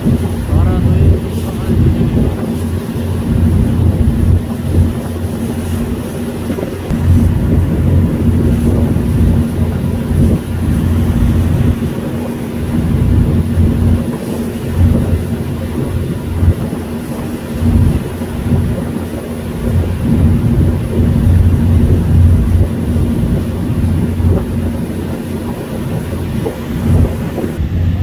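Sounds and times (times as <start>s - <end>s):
boat engine rumbling: 0.0s - 28.0s.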